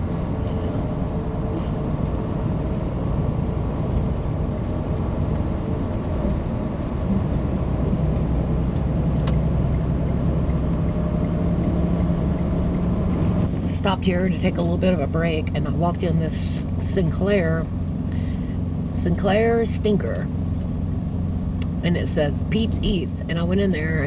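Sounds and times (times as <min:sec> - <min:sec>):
diesel engine droning: 0:00.0 - 0:24.0
road noise: 0:00.0 - 0:24.0.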